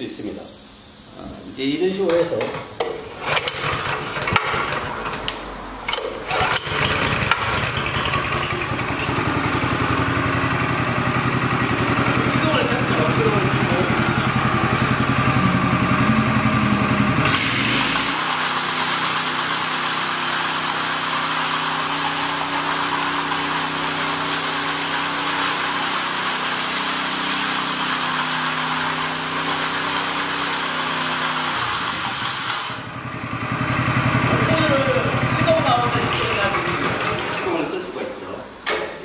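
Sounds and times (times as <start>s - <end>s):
power trowel engine revving: 3.1s - 37.8s.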